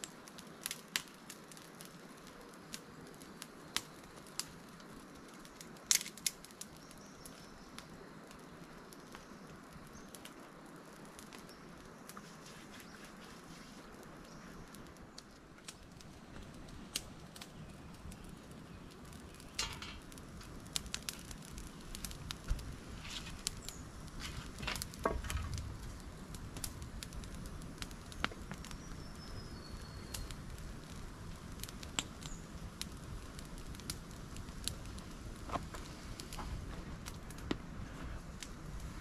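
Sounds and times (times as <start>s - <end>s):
raindrops pattering on a tarp: 0.0s - 39.0s.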